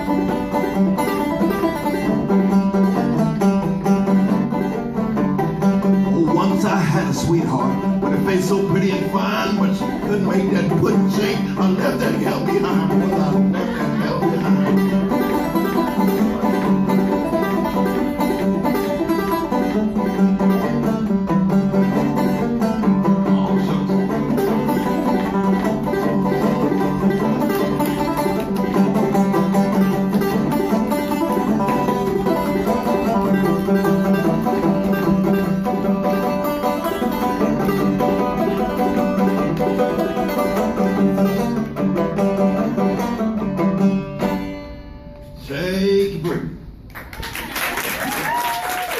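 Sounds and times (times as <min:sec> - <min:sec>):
banjo plucked notes: 0:00.0 - 0:45.4.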